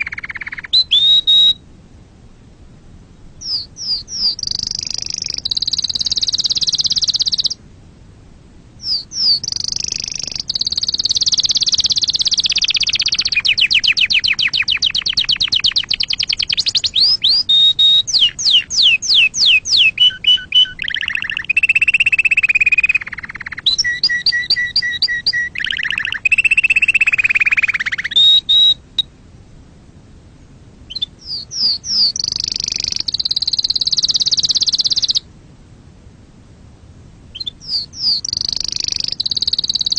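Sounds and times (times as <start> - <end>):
canary singing trills: 0.0 - 1.6, 3.4 - 7.6, 8.8 - 29.1, 30.9 - 35.3, 37.3 - 39.9.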